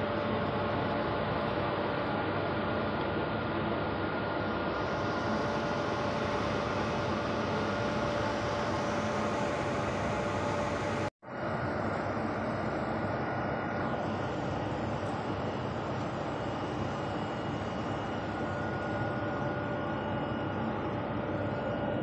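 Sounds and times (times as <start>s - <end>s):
conveyor machinery drone: 0.0s - 22.0s.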